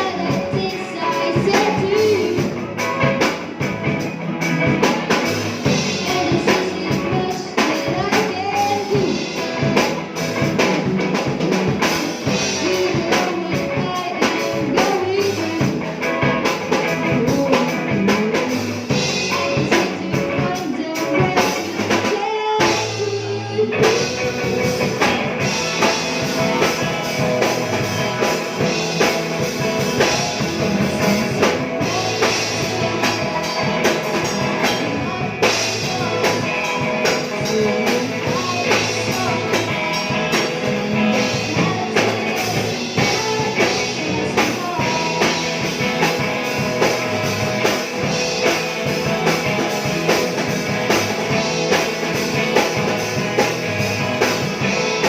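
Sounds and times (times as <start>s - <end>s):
person singing: 0.0s - 55.0s
rock band playing live: 0.0s - 55.0s.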